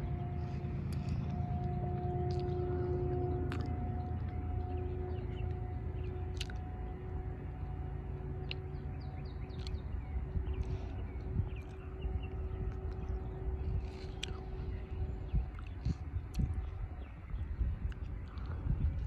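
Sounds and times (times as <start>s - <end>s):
distant locomotive horn: 0.0s - 17.8s
birds chirping: 0.0s - 19.0s
low rumble of approaching train: 0.0s - 19.0s.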